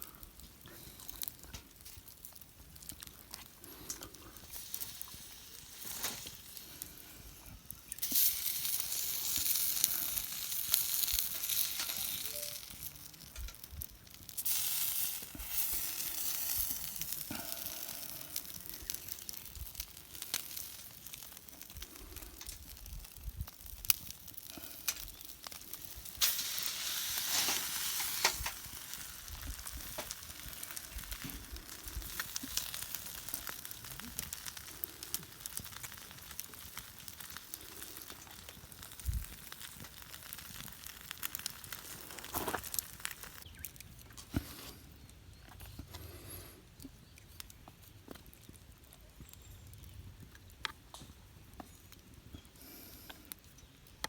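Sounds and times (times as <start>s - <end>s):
fire clicks and crackles: 0.0s - 54.0s
food sizzling over fire: 0.0s - 54.0s.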